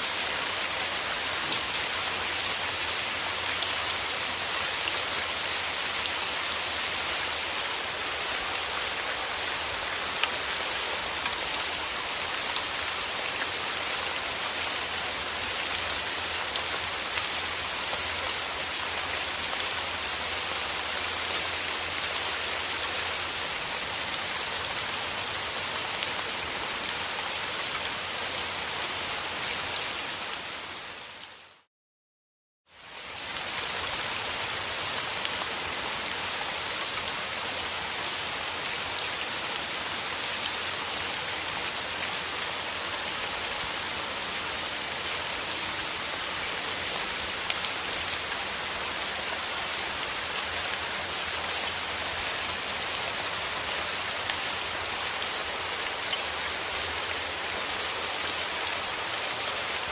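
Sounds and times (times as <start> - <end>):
rain falling on surfaces: 0.0 - 31.7, 32.7 - 59.9.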